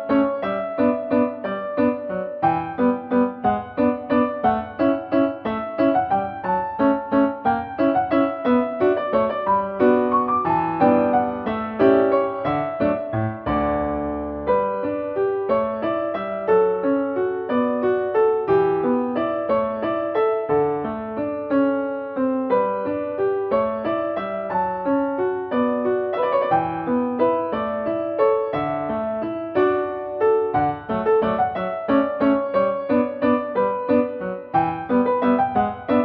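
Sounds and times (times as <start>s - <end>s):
piano waltz music: 0.0s - 36.0s.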